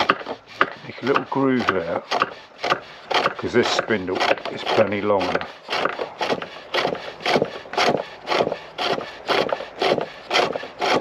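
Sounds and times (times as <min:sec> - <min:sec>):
chisel scraping wood on lathe: 0:00.0 - 0:11.0.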